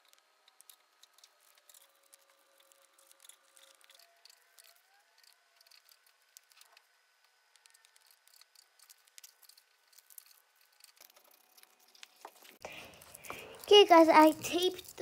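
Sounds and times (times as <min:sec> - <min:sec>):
hands handling paper and tape: 0:00.0 - 0:15.0
scissors cutting paper: 0:00.0 - 0:15.0.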